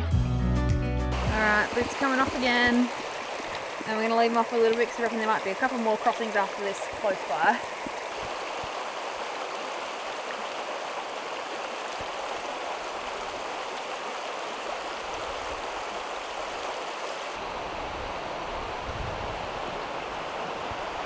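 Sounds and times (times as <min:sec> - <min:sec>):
creek water rushing over stones: 0:01.1 - 0:21.0.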